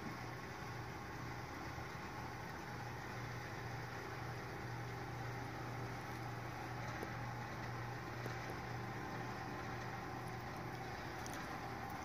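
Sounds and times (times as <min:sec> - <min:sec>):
electric door motor humming: 0:00.0 - 0:12.0.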